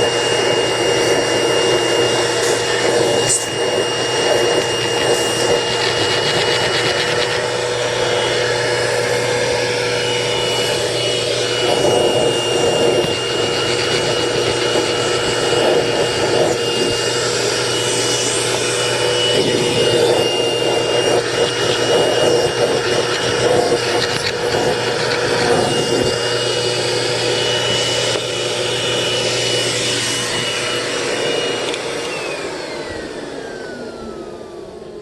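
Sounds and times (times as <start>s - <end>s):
machine motor whine and hum: 0.0s - 35.0s.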